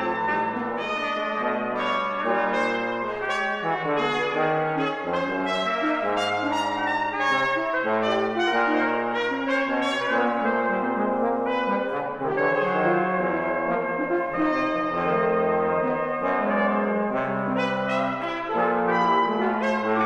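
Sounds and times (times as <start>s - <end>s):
brass quintet playing: 0.0s - 20.0s.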